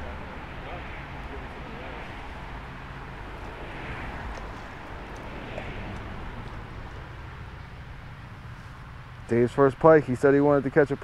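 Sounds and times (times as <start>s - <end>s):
highway traffic drone: 0.0s - 11.0s.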